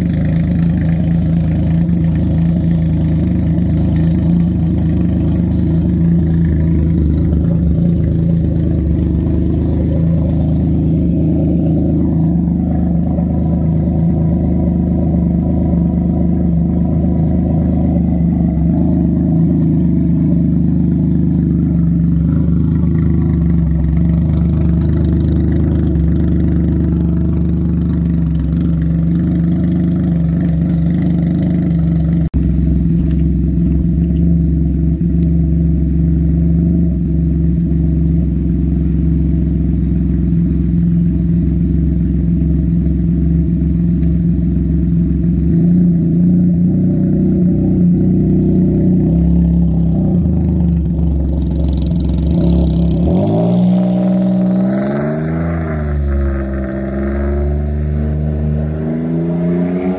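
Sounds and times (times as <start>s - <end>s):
engine idling: 0.0s - 57.4s.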